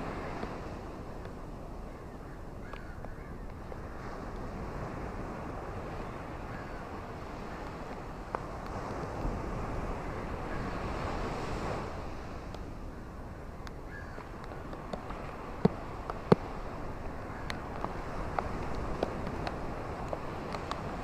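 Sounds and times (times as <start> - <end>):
ocean waves breaking on shore: 0.0 - 21.0.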